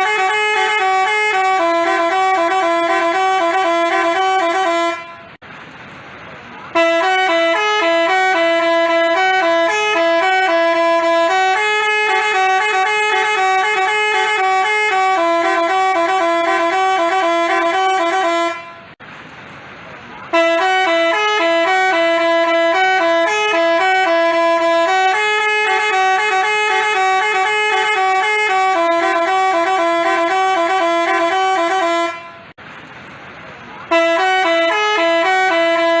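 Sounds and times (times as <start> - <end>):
musical bus horn tune: 0.0 - 5.4, 6.6 - 19.0, 20.3 - 32.6, 33.9 - 36.0.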